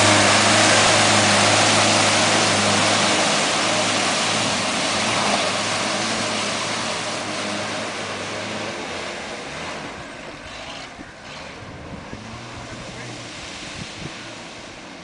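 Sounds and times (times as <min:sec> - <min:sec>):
off-road engine running hard: 0:00.0 - 0:15.0.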